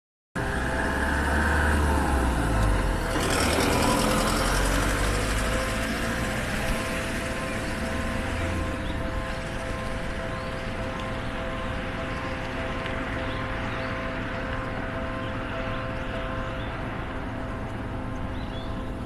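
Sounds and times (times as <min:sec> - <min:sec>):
level crossing warning bell ringing: 0:01.9 - 0:19.0.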